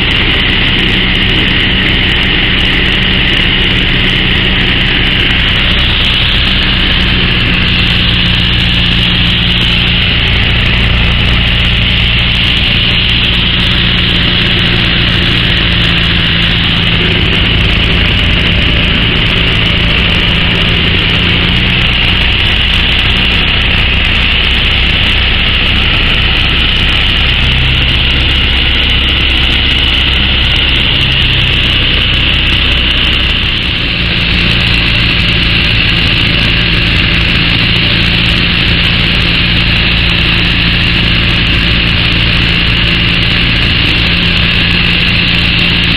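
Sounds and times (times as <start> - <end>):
light aircraft engine and propeller: 0.0 - 45.9.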